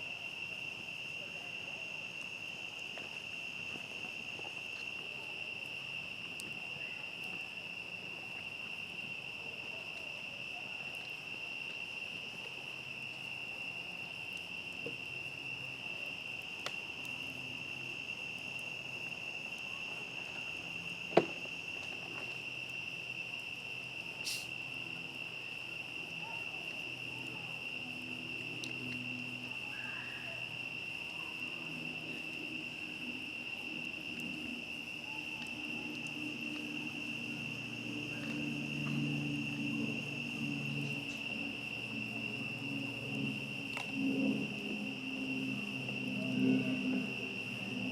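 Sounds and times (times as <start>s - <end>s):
campfire crackles: 0.0s - 47.9s
crickets trilling: 0.0s - 47.9s.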